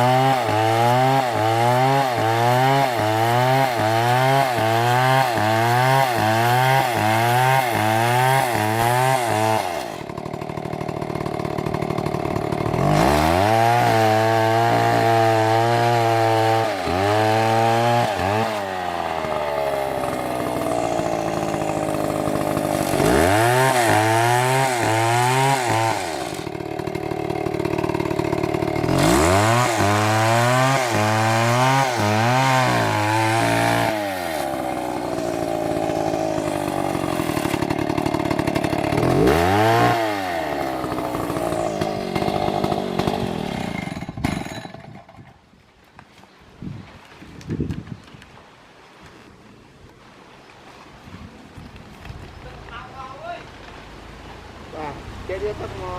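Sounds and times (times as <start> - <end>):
chainsaw cutting wood: 0.0 - 46.1.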